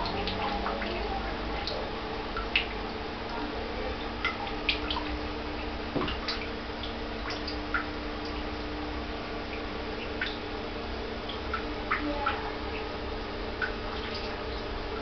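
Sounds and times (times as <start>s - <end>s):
aquarium pump humming: 0.0s - 15.0s
water dripping into aquarium: 0.0s - 15.0s.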